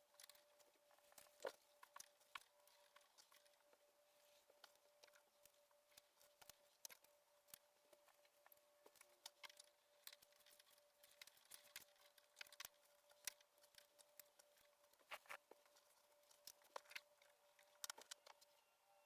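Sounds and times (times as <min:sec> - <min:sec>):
light clicks and rustles: 0:00.0 - 0:18.6
faint steady hum: 0:00.0 - 0:19.0.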